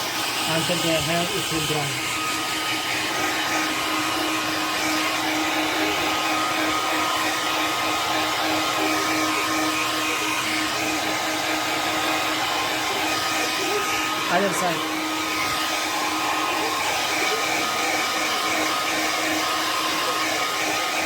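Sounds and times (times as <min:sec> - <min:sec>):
hair dryer blowing: 0:00.0 - 0:21.0.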